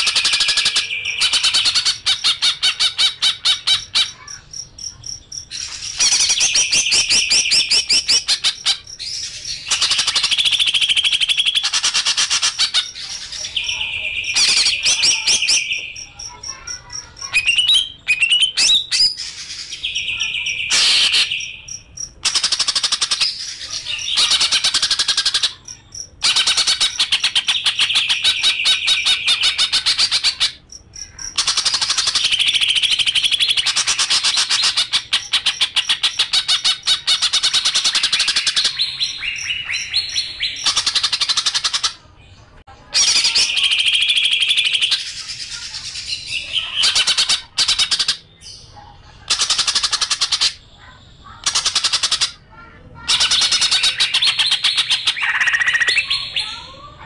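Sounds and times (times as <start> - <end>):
songbird trilling and chirping: 0.0 - 42.0, 43.0 - 52.4, 53.0 - 57.0.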